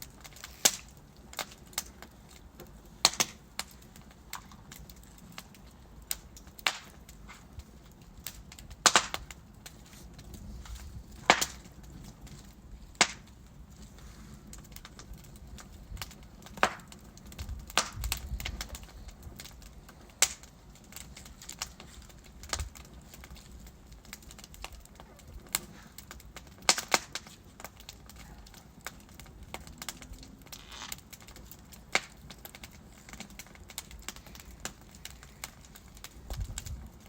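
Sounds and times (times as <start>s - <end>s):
burning logs crackling: 0.0s - 37.0s
flames rumbling: 0.0s - 37.0s.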